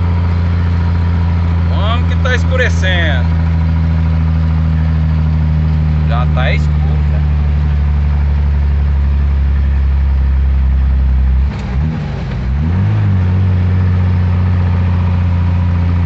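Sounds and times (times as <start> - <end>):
truck engine running under load: 0.0 - 16.0.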